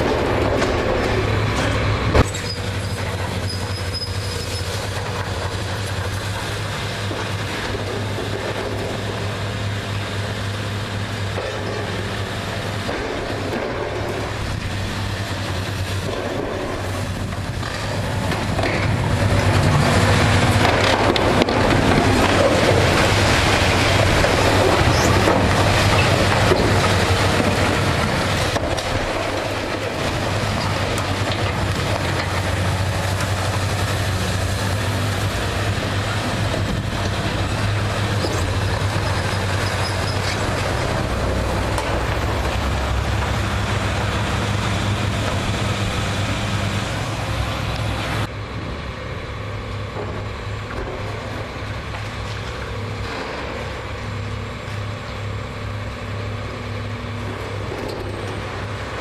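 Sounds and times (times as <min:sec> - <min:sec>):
diesel engine hum: 0:00.0 - 0:59.0
rough rumble and clatter: 0:00.0 - 0:59.0.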